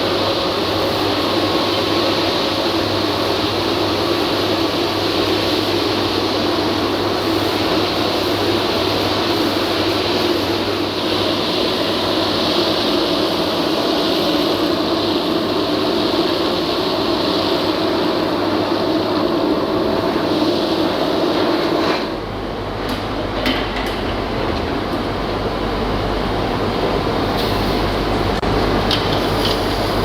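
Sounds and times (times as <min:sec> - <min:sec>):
vacuum pump running: 0:00.0 - 0:30.0.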